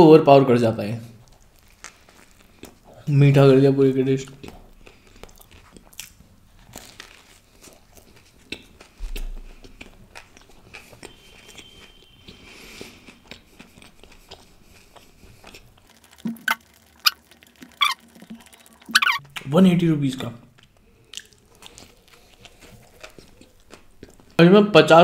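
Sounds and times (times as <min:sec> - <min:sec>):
person chewing food: 0:01.2 - 0:03.1, 0:04.3 - 0:19.4, 0:20.5 - 0:24.4.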